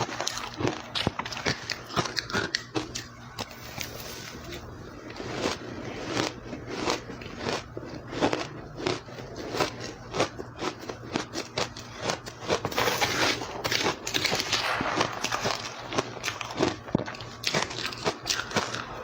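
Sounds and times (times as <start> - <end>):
person chewing ice: 0.0 - 19.0.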